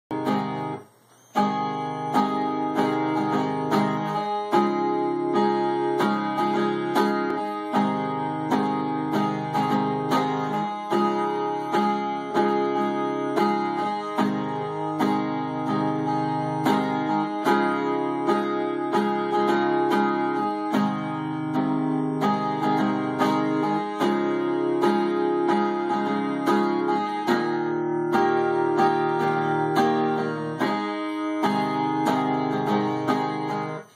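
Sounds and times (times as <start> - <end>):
acoustic guitar picking chords: 0.1 - 33.9.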